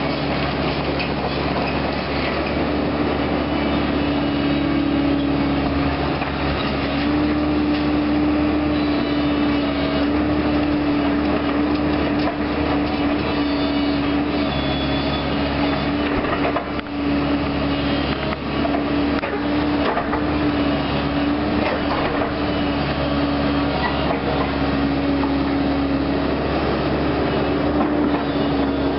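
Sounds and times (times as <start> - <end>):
demolition machine diesel engine humming: 0.0 - 28.9.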